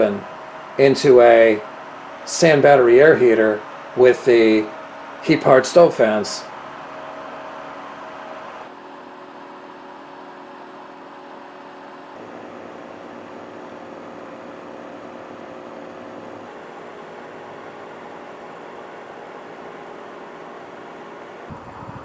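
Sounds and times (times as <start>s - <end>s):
small fan motors whirring: 0.0s - 22.0s.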